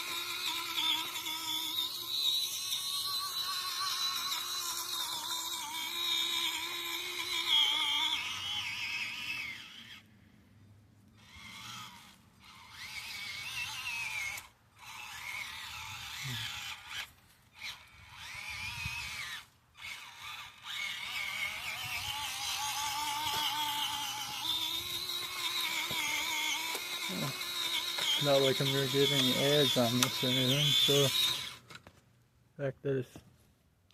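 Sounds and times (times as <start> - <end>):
small electric motor whining: 0.0 - 10.4, 11.0 - 31.9.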